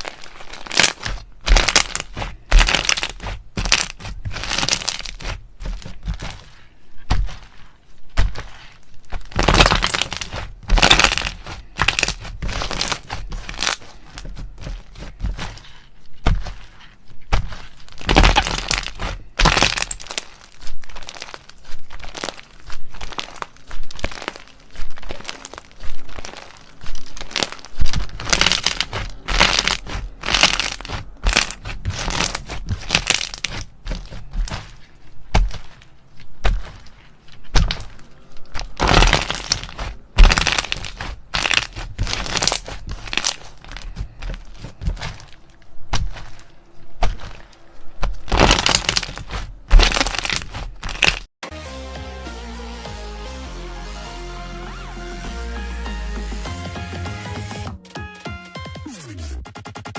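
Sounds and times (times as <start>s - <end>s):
slime crackling when squeezed: 0.0s - 7.6s, 8.2s - 16.7s, 17.3s - 51.3s.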